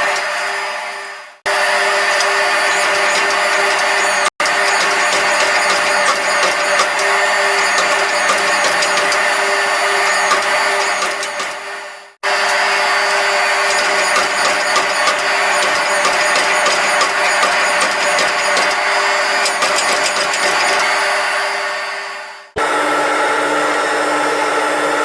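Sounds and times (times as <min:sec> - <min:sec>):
electric power tool running: 0:01.5 - 0:21.7.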